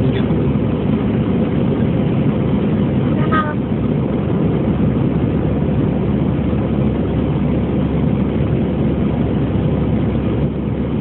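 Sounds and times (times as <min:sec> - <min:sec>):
jet engines roaring in cabin: 0:00.0 - 0:11.0.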